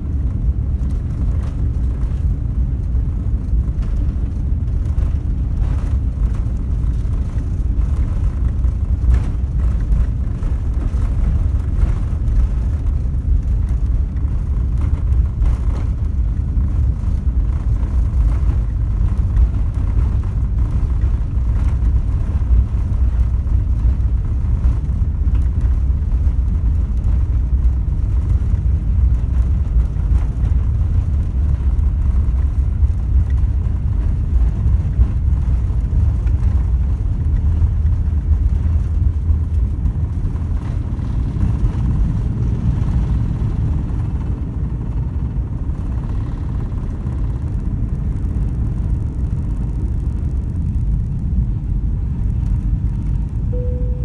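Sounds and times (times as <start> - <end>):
jet engines rumbling: 0.0 - 54.0
wheels on runway: 0.0 - 54.0.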